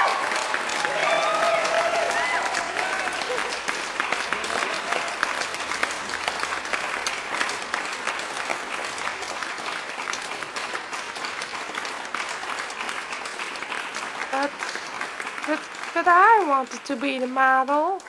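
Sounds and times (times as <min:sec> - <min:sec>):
crowd applause: 0:00.0 - 0:18.0.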